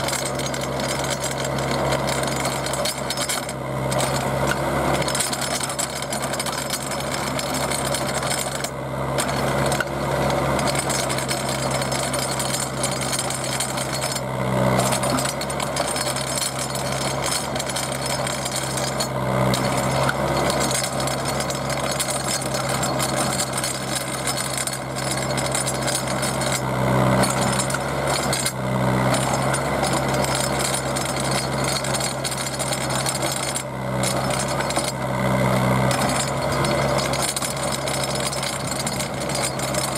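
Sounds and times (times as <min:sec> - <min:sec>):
auger drill engine humming: 0:00.0 - 0:39.9
auger grinding into ground: 0:00.0 - 0:39.9.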